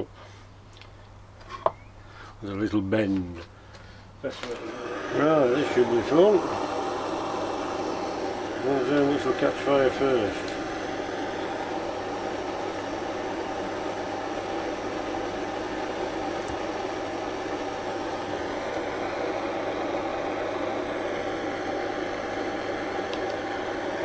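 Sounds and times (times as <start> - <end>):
hot air gun blowing: 4.5 - 24.0.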